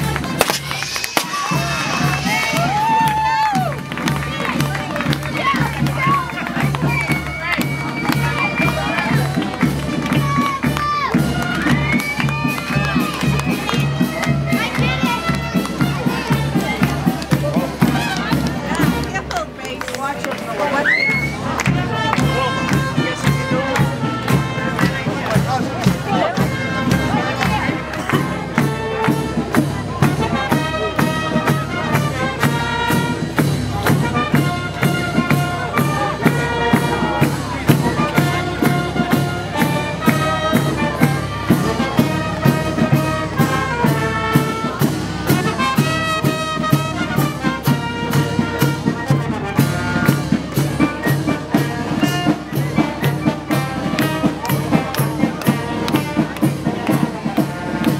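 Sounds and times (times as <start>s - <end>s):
brass band playing: 0.0s - 20.4s, 21.1s - 57.9s.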